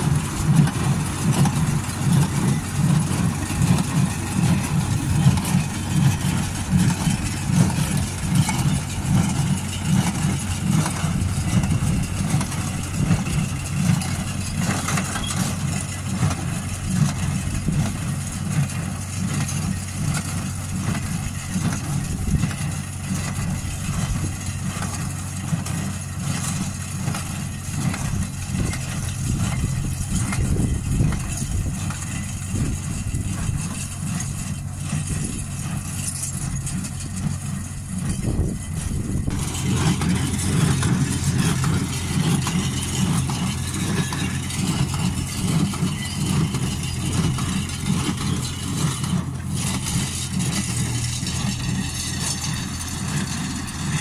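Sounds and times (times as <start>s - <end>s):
hay baler: 0.0s - 54.0s
tractor engine running: 0.0s - 54.0s.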